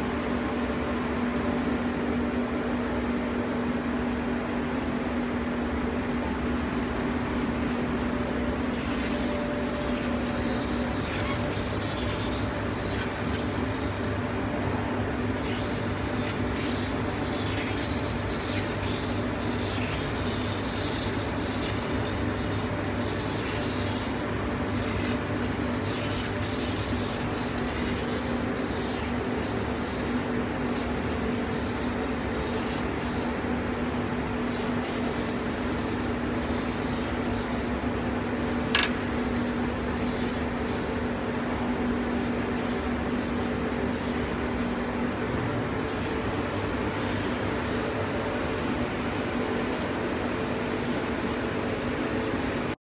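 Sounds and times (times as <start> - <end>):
laser cutting machine humming: 4.5 - 52.8.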